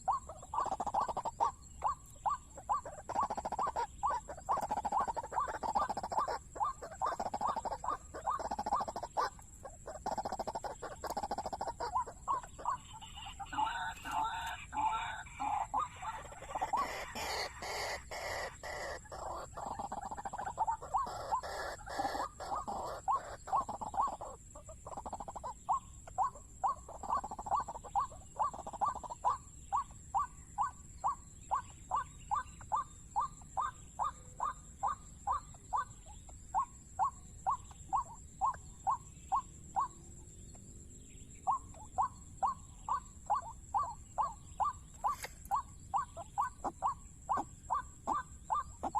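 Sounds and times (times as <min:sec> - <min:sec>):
waterhen calling: 0:00.0 - 0:40.0, 0:41.5 - 0:48.9.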